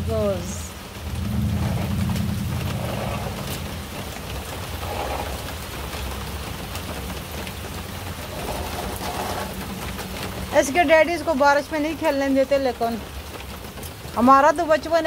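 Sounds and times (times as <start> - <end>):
heavy rain on path and lawn: 0.0 - 15.0.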